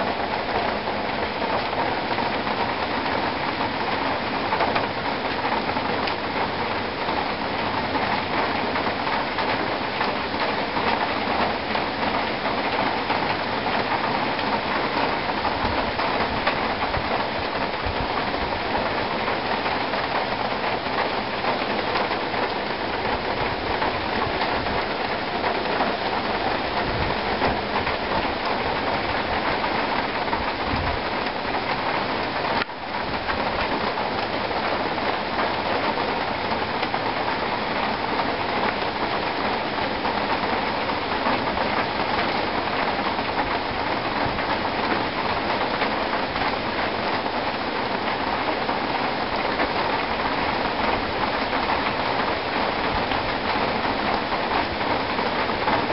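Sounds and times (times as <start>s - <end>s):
rain falling on foliage: 0.0s - 55.9s.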